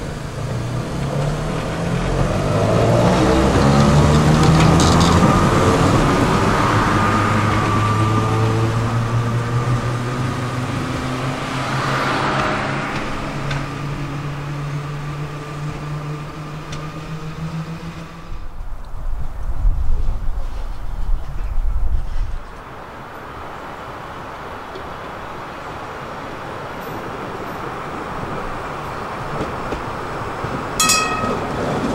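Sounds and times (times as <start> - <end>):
tram running rumble: 0.0 - 31.9.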